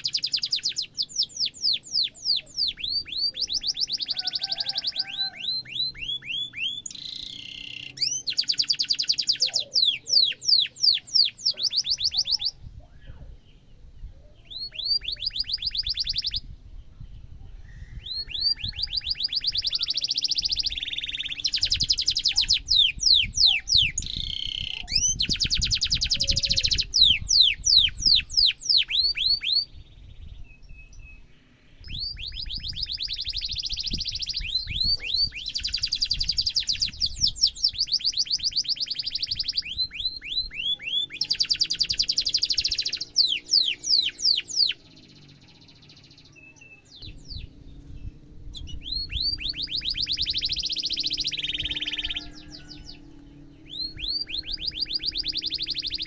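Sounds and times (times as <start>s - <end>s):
canary singing trills: 0.0s - 13.6s, 14.2s - 16.5s, 17.6s - 56.0s.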